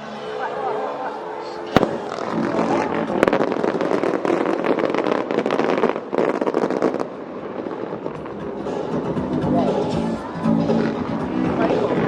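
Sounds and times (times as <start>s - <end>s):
fireworks crackling: 1.7s - 12.0s.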